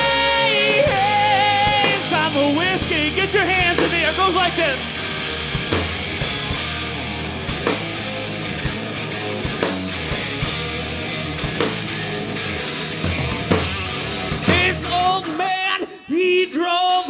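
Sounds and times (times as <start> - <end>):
rock band playing: 0.0 - 16.2.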